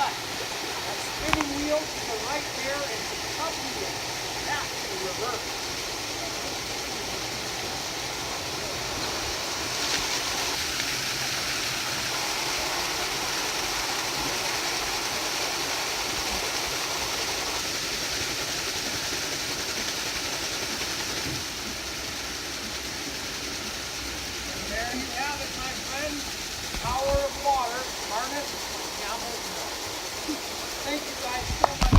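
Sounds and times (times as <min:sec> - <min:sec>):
mill machinery turning: 0:00.0 - 0:31.9
rushing water: 0:00.0 - 0:31.9.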